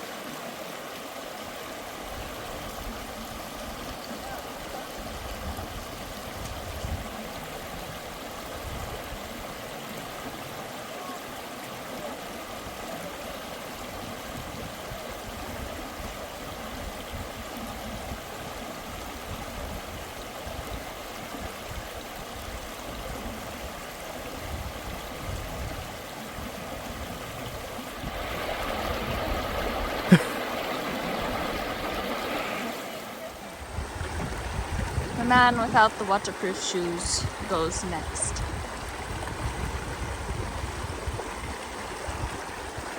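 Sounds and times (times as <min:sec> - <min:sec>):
stream water running: 0:00.0 - 0:42.9.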